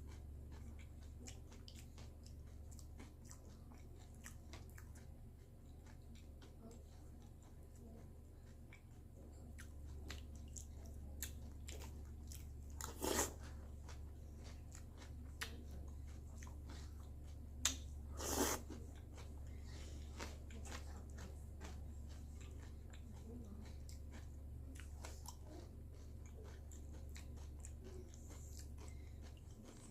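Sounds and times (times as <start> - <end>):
crunching cereal chewing: 0.0 - 29.9.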